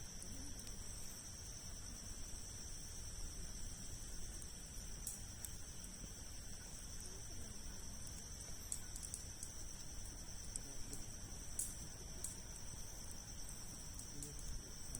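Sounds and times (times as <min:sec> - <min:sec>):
insects trilling: 0:00.0 - 0:14.9
campfire popping and crackling: 0:00.2 - 0:14.9.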